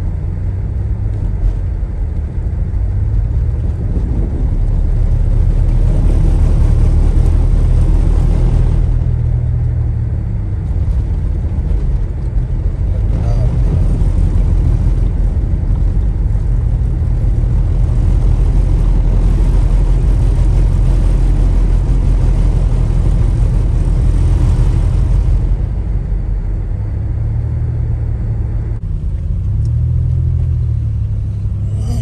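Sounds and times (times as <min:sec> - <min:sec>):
vehicle engine low rumble: 0:00.0 - 0:32.0.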